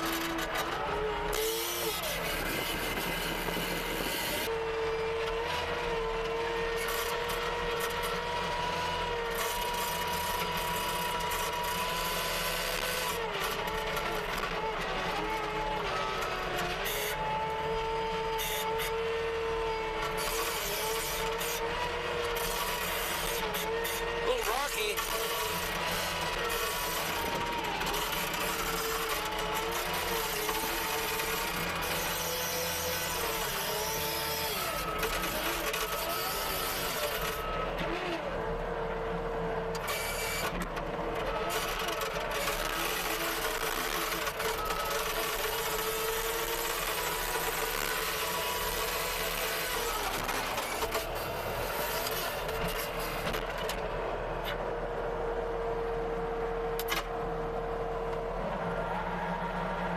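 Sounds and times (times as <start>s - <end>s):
skid steer engine droning: 0.0s - 59.9s.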